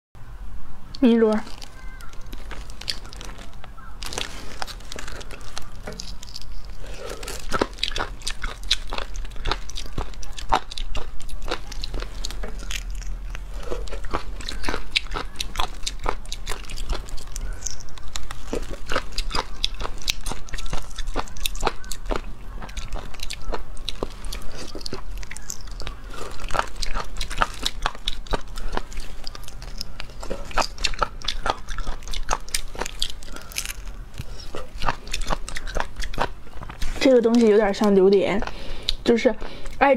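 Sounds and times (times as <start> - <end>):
eating snails with lip smacks: 1.4 - 39.9.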